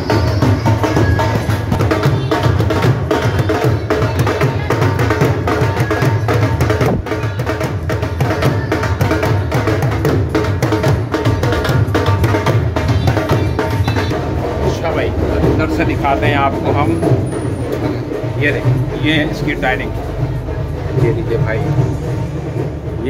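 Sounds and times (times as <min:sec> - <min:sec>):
barrel drum beating rhythm: 0:00.0 - 0:23.0.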